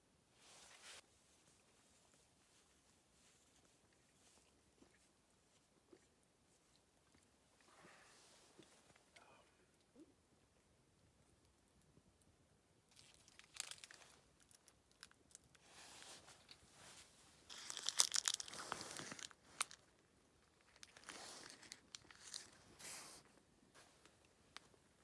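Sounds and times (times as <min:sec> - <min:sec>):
crinkly material rustling: 0:00.4 - 0:09.1, 0:12.9 - 0:25.0.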